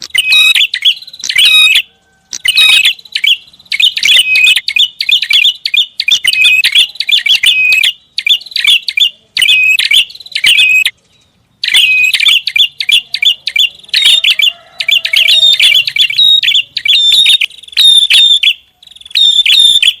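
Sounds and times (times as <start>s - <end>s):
bird chirping phrases: 0.0s - 20.0s.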